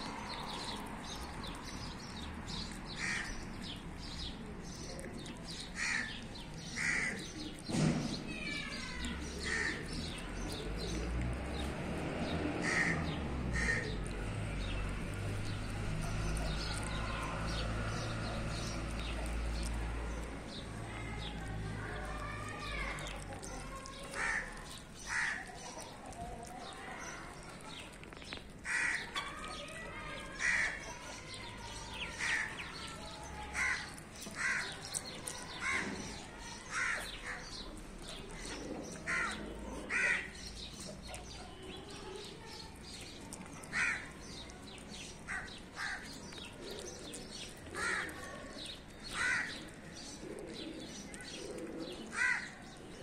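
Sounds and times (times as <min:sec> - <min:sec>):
birds calling: 0:00.0 - 0:53.0.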